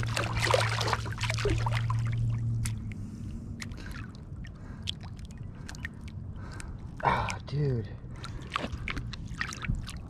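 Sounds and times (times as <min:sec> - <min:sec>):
fish splashing in shallow water: 0:00.0 - 0:07.3, 0:08.1 - 0:10.0
low steady hum: 0:00.0 - 0:10.0.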